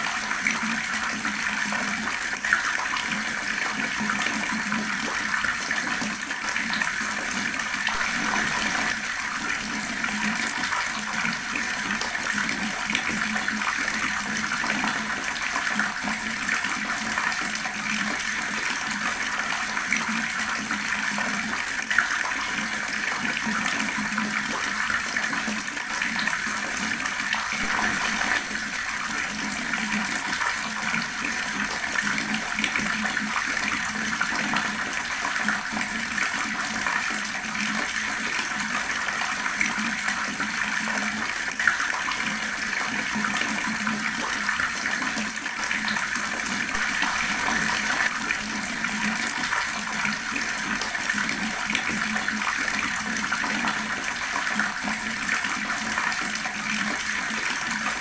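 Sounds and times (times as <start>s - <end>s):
water running from a tap: 0.0s - 58.0s.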